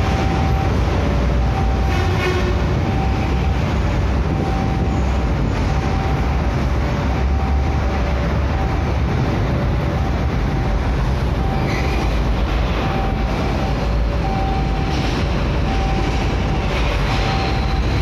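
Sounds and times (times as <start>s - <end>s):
freight train rumbling: 0.0s - 18.0s
two-tone crossing alarm: 0.0s - 18.0s.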